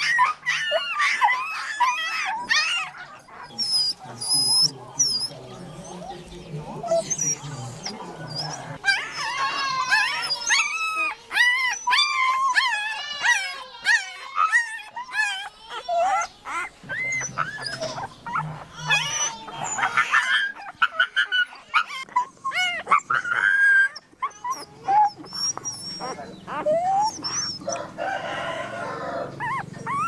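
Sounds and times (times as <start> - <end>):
puppies yelping: 0.0 - 30.0.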